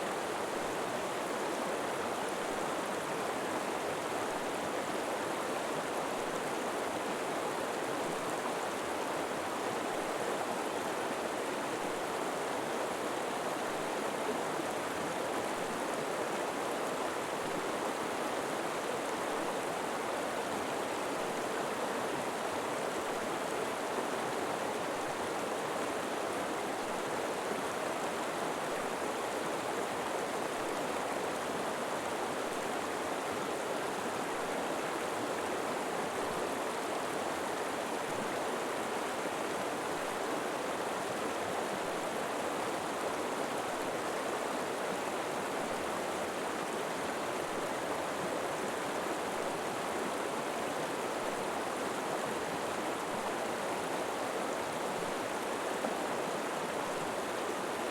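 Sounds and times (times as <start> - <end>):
river flowing: 0.0 - 57.9.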